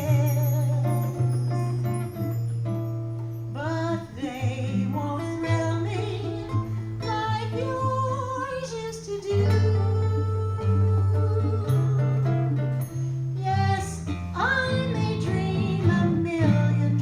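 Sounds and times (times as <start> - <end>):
jazz combo with guitar: 0.0 - 17.0.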